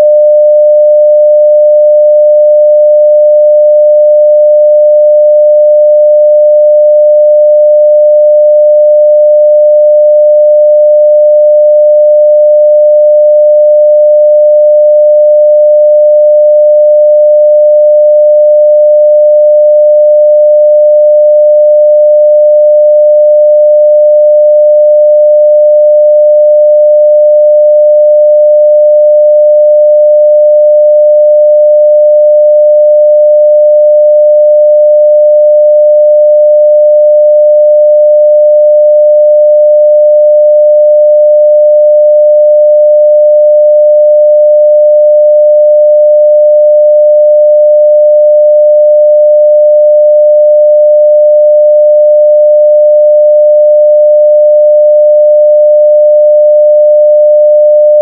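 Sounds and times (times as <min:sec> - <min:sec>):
sine wave test tone: 0:00.0 - 0:58.0.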